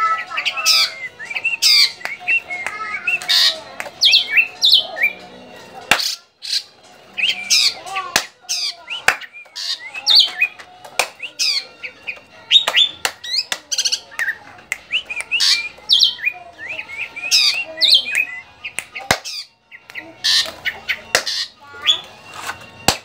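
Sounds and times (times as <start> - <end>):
bird singing: 0.0 - 22.8.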